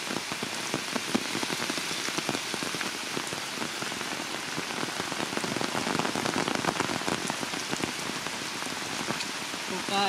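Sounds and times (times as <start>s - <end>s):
heavy rain on leaves: 0.0s - 10.0s.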